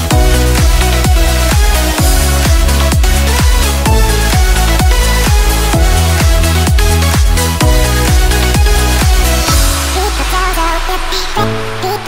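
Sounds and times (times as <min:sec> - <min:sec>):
deep kick drum: 0:00.0 - 0:10.0
electronic dance music: 0:00.0 - 0:12.0.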